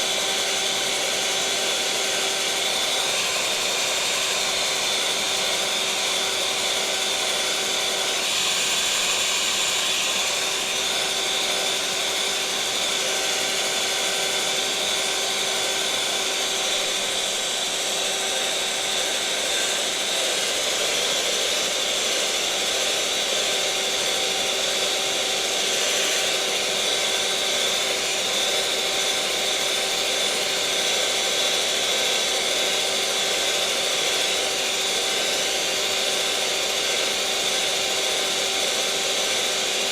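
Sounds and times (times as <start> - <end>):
electric mixer motor whirring: 0.0 - 39.9.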